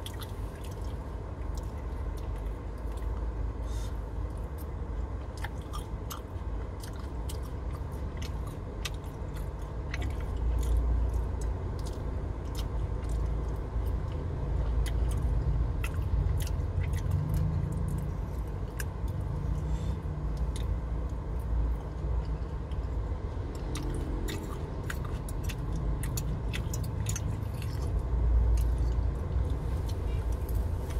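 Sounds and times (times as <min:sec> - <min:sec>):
low car cabin rumble: 0:00.0 - 0:30.9
person chewing food: 0:00.0 - 0:30.9.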